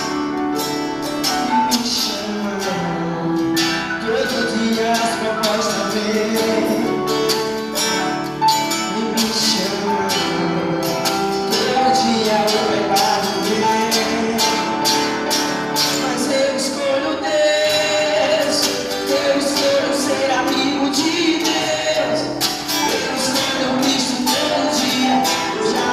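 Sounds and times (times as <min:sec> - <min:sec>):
guitar: 0:00.0 - 0:25.9
live gospel band playing: 0:00.0 - 0:25.9
person singing: 0:01.1 - 0:08.0, 0:08.6 - 0:25.9.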